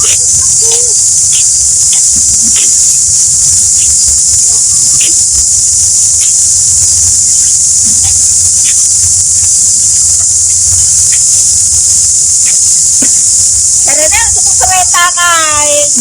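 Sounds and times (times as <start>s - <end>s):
shrill insect chorus drone: 0.0s - 16.0s.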